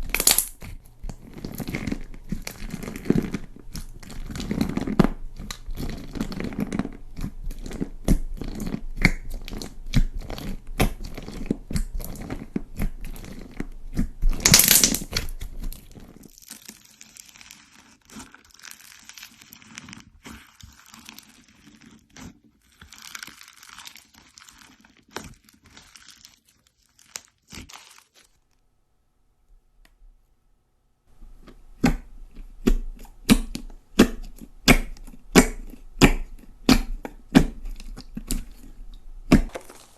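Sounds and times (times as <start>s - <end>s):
slime squelching and popping: 0.0s - 28.4s, 31.3s - 39.9s.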